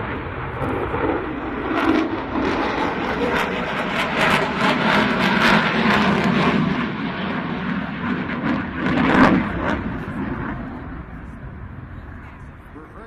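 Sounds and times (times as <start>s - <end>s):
jet flying overhead: 0.0s - 13.0s.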